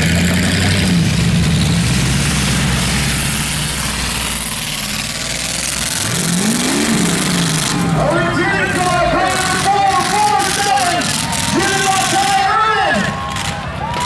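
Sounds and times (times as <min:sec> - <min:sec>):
car engine running: 0:00.0 - 0:14.0
engine revving: 0:00.0 - 0:14.0.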